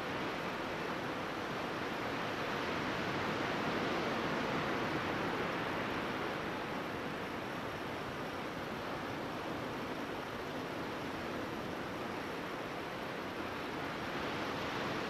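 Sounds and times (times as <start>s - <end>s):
ocean surf washing onto beach: 0.0s - 15.0s.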